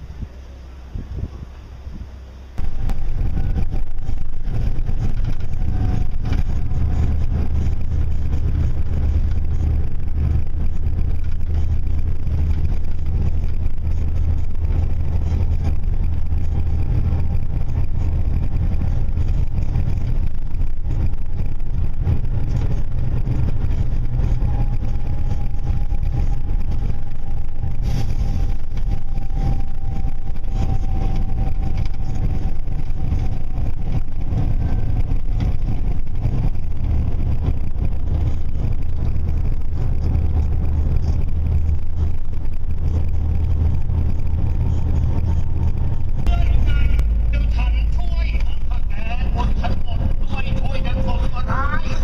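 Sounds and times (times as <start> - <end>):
faint steady whine: 0.0 - 52.0
vehicle engine rumble: 0.0 - 52.0.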